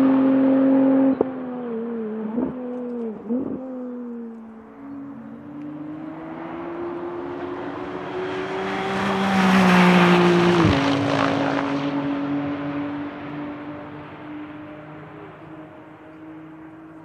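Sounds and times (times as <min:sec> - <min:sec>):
race car passing at speed: 0:00.0 - 0:17.0.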